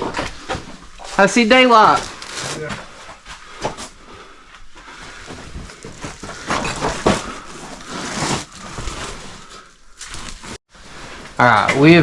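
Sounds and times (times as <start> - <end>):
body scraping against rock: 0.0 - 11.3.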